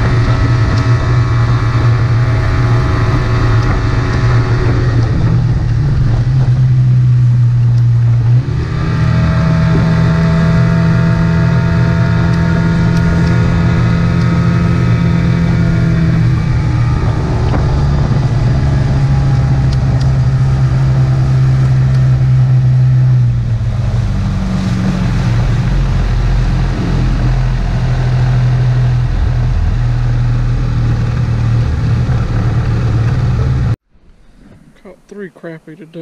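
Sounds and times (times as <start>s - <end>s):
outboard motor running: 0.0s - 33.8s
water rushing past hull: 0.0s - 33.8s.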